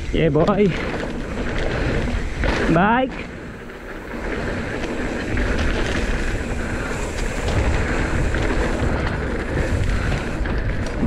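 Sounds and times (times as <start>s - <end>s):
bike parts rattling and clicking: 0.0s - 11.0s
bike tyre roar: 0.0s - 11.0s
wind rushing over microphone: 0.0s - 11.0s.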